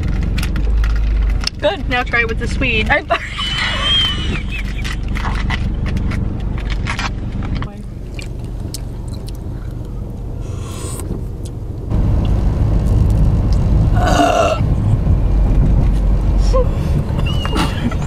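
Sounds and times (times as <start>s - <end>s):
car rumble from inside cabin: 0.0s - 18.0s.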